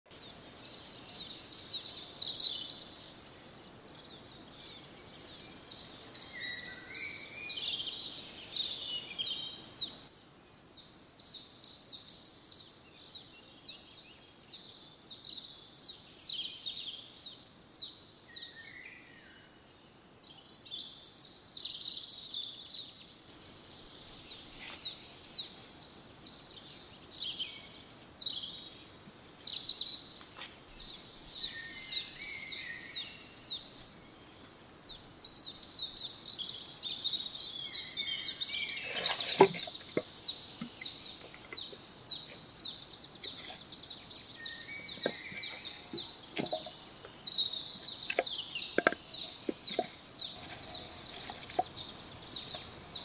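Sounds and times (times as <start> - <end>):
faint outdoor background: 0.0 - 53.0
birds singing and chirping: 0.1 - 53.0.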